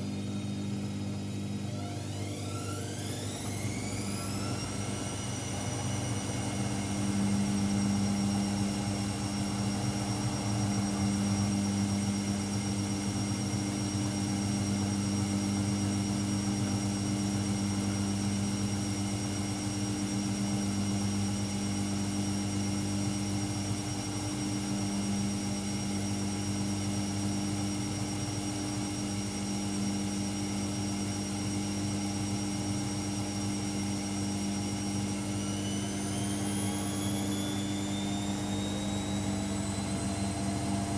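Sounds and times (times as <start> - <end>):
high whine of washing machine: 0.0 - 40.9
washing machine motor hum: 0.0 - 40.9.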